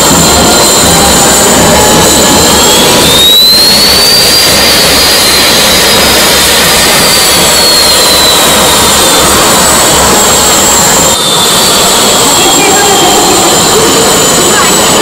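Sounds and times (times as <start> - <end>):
jet engine roar with turbine whine: 0.0 - 15.0.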